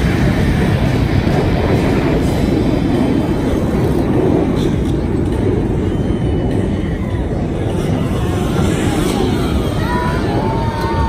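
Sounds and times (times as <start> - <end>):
jet aircraft flying over: 0.0 - 11.0.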